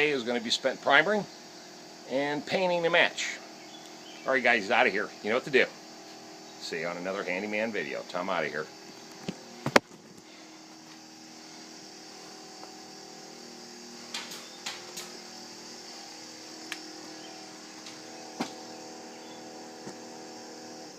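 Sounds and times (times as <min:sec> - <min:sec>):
steady mechanical hum: 0:00.0 - 0:20.9.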